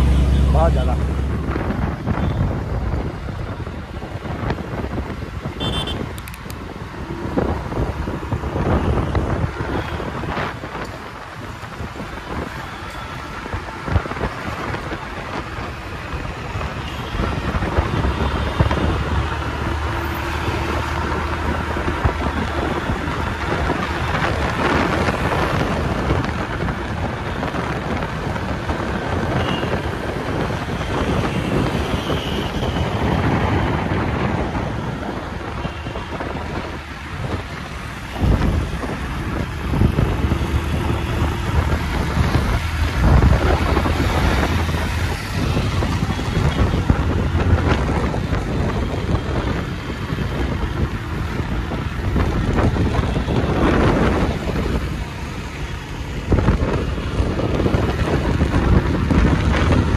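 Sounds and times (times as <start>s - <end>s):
city traffic rumble: 0.0s - 59.9s
wind buffeting microphone: 1.0s - 59.9s.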